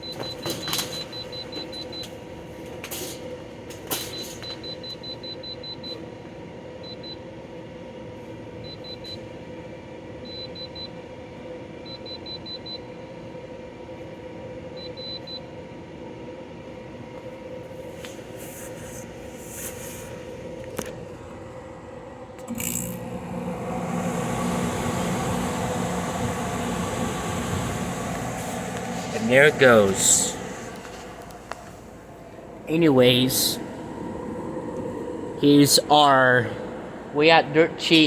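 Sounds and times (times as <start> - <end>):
air conditioner humming: 0.0 - 38.0.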